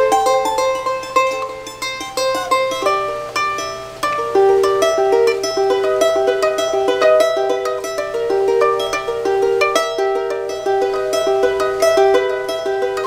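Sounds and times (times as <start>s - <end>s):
charango plucked melody: 0.0s - 13.0s.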